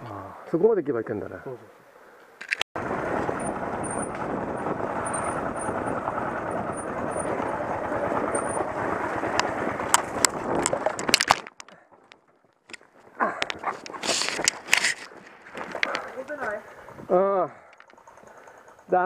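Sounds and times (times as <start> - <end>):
motorcycle engine running: 2.8 - 11.2, 11.9 - 19.0.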